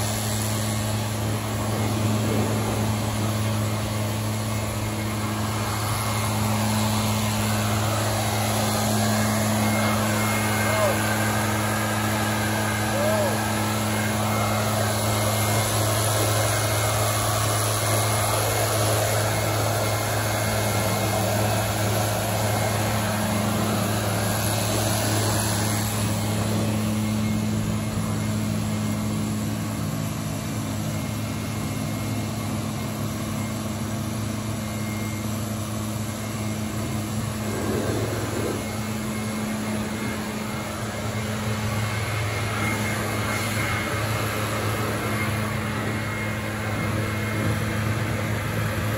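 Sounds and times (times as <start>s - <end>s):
pressure washer engine hum: 0.0s - 48.9s.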